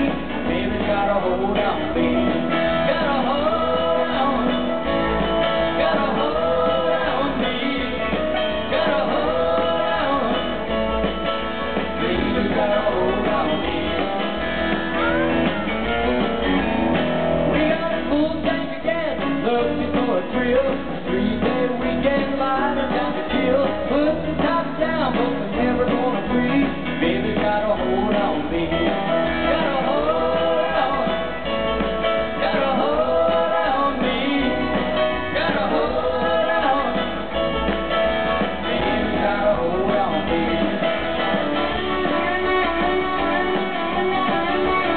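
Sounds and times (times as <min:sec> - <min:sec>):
man singing: 0:00.0 - 0:15.8, 0:17.5 - 0:37.8, 0:38.4 - 0:44.9
country-rock band playing: 0:00.0 - 0:44.9.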